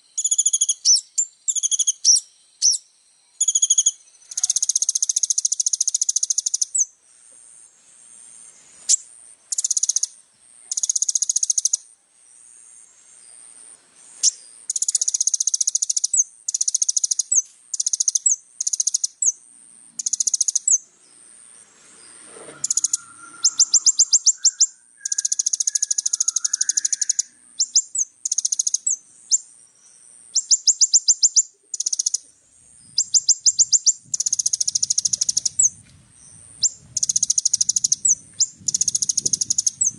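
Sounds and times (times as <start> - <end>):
sunbird buzzing trills: 0.0 - 6.9, 7.9 - 13.5, 14.1 - 39.9.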